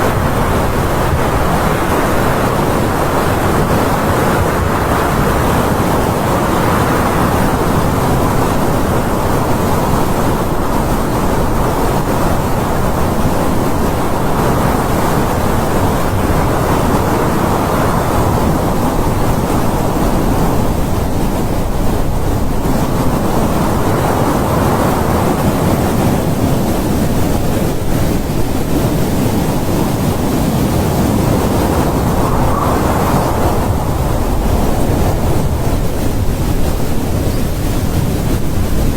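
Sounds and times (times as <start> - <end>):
strong wind blowing: 0.0 - 38.9.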